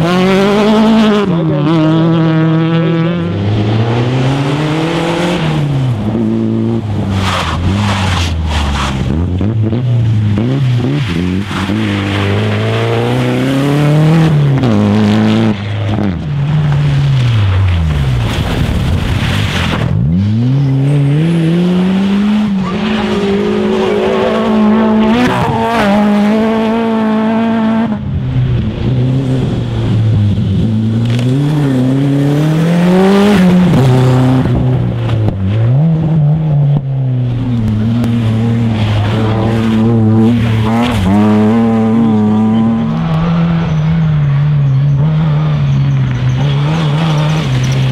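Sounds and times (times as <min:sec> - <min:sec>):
rally car engines revving: 0:00.0 - 0:47.9.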